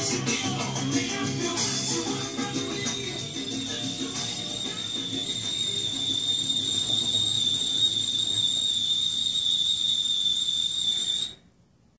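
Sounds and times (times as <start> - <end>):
high-pitched whine: 0.0 - 11.4.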